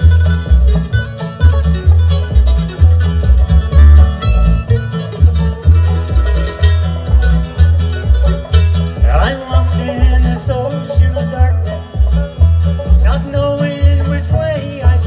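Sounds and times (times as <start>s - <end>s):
acoustic guitar: 0.0s - 15.0s
banjo: 0.0s - 15.0s
upright bass: 0.0s - 15.0s.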